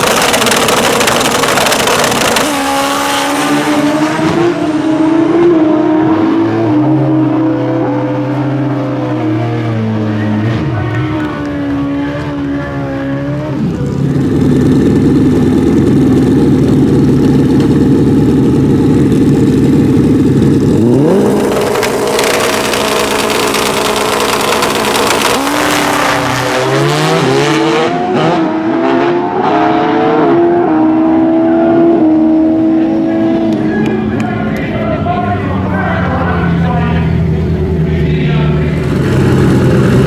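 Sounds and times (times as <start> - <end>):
drag motorcycle engines revving: 0.0 - 40.0.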